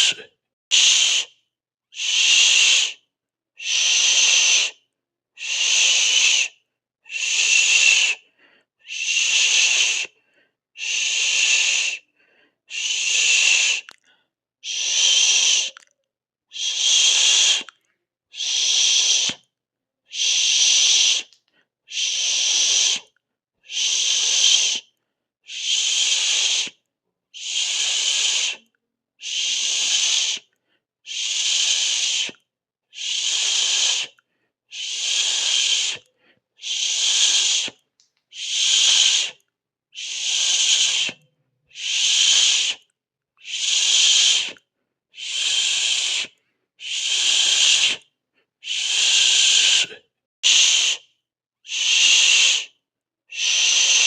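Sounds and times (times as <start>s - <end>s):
person hissing shh: 0.0s - 1.4s, 2.0s - 3.0s, 3.6s - 4.8s, 5.4s - 6.5s, 7.1s - 8.2s, 8.8s - 10.2s, 10.8s - 12.1s, 12.7s - 13.9s, 14.6s - 15.8s, 16.5s - 17.7s, 18.3s - 19.4s, 20.1s - 24.9s, 25.5s - 26.8s, 27.4s - 30.5s, 31.1s - 39.4s, 40.0s - 51.1s, 51.7s - 54.0s.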